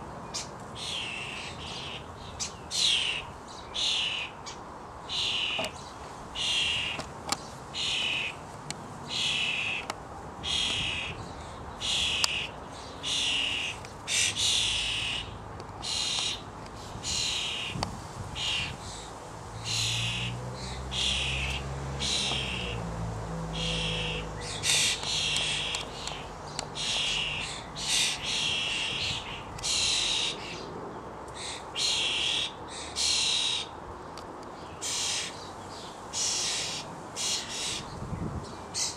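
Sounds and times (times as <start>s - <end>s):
young starlings begging calls: 0.3s - 8.4s, 9.0s - 22.8s, 23.4s - 30.7s, 31.3s - 33.8s, 34.6s - 38.9s.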